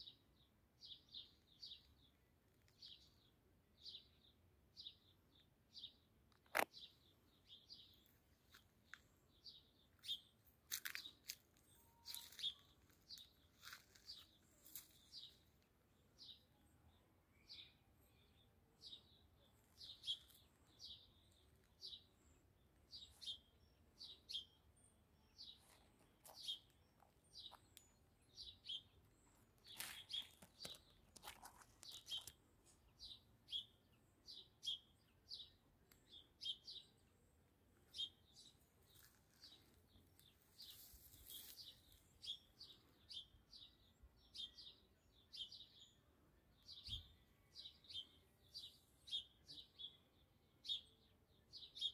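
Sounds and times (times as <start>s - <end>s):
small bird chirping: 0.8s - 51.9s.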